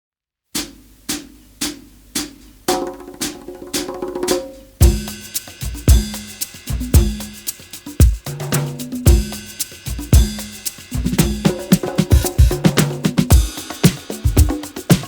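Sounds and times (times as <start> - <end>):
heavy kick drum: 0.6 - 8.5, 9.1 - 15.0
steady drum beat: 0.6 - 15.0.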